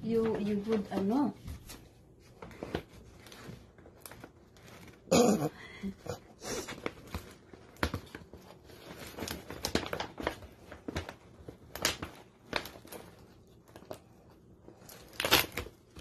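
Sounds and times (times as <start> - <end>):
paper rustling and crinkling: 0.0 - 5.1, 6.5 - 16.0.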